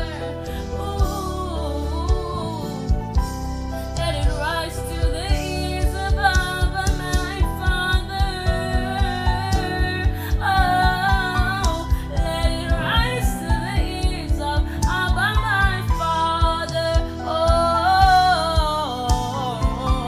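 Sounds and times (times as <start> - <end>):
instrumental backing with low beat: 0.0 - 20.0
woman singing: 0.0 - 20.0.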